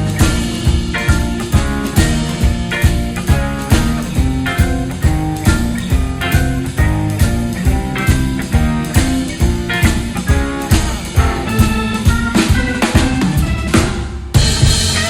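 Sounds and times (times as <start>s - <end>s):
blues band playing: 0.0s - 15.0s
drums on a steady beat: 0.0s - 15.0s.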